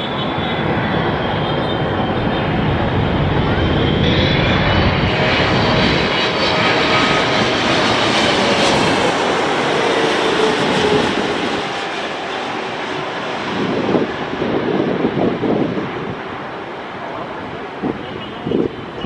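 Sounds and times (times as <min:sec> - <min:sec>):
faint jet engine whine: 0:00.0 - 0:19.0
jet engines passing overhead: 0:00.0 - 0:19.0.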